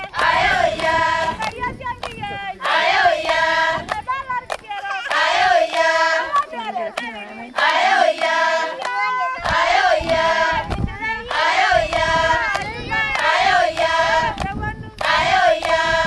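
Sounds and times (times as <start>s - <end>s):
group singing in unison: 0.0s - 16.0s.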